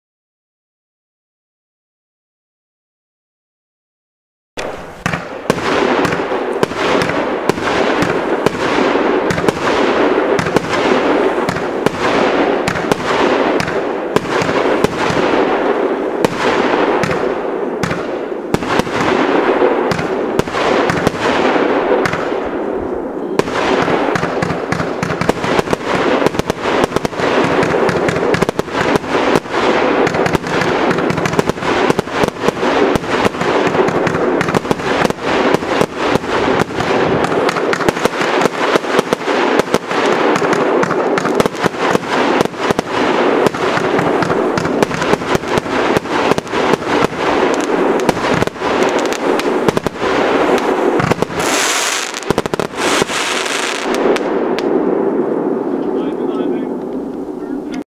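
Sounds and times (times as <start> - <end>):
fireworks firing: 4.6 - 57.8.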